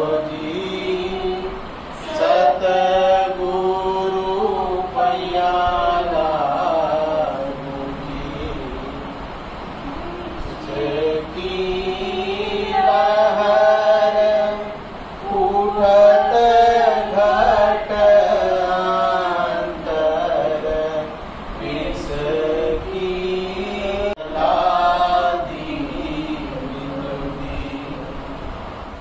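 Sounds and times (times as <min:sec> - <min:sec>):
group chanting a hymn in unison: 0:00.0 - 0:28.5.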